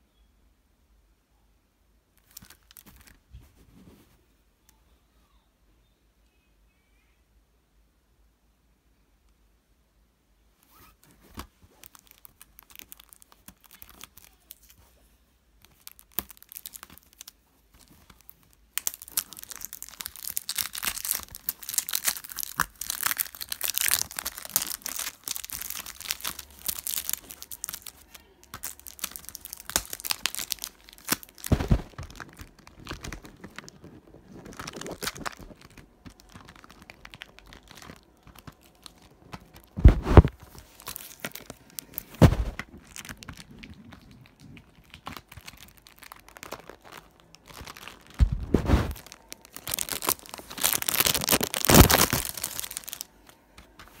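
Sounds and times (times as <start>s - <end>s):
cellophane crinkling: 2.2s - 3.7s, 10.7s - 15.0s, 15.6s - 54.0s.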